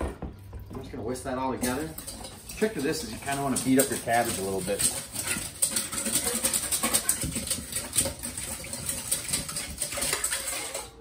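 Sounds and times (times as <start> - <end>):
wire whisk beating in metal bowl: 1.6 - 11.0.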